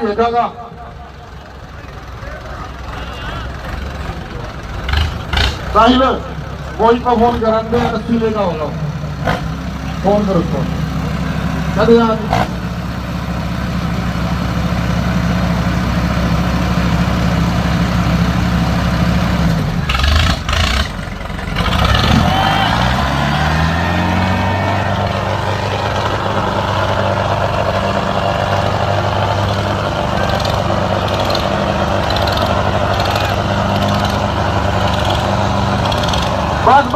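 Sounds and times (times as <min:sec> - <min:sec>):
diesel tractor engine under load: 0:00.0 - 0:36.9.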